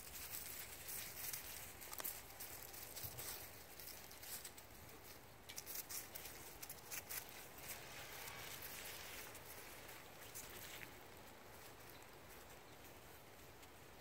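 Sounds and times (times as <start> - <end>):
paws scrambling over dry leaves: 0.0 - 14.0
soft clicks and crackles: 0.0 - 14.0.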